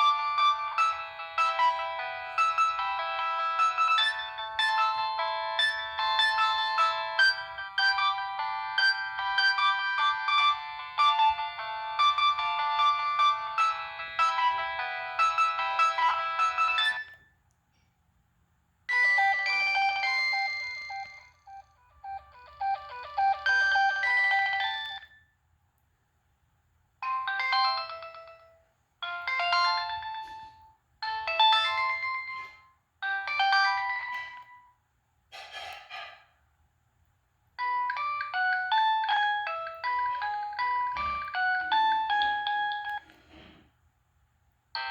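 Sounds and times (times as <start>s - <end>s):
phone ringtone melodies: 0.0s - 17.2s, 18.9s - 25.2s, 27.0s - 34.6s, 37.6s - 43.1s.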